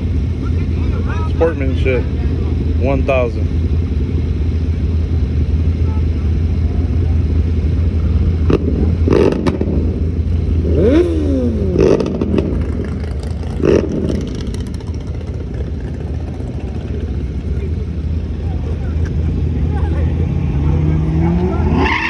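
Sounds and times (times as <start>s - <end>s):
mini bike engine idling: 0.0s - 9.1s, 9.9s - 20.2s.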